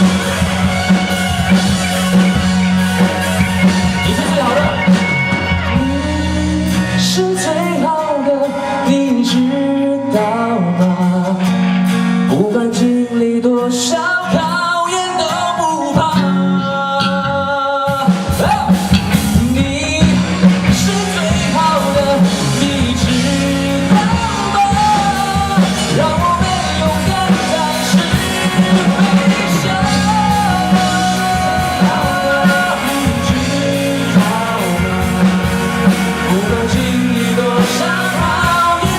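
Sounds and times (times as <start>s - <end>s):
live rock band playing: 0.0s - 38.9s
person singing: 0.0s - 38.9s.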